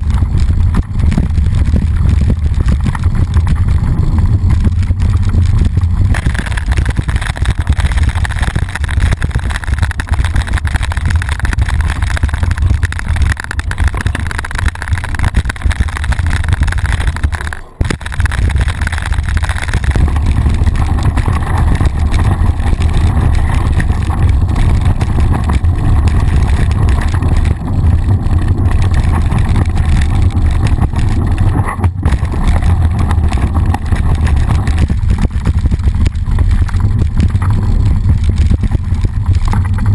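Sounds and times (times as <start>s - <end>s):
bike tyre on dirt: 0.0s - 39.9s
camera shaking: 0.0s - 39.9s
wind buffeting camera: 0.0s - 39.9s.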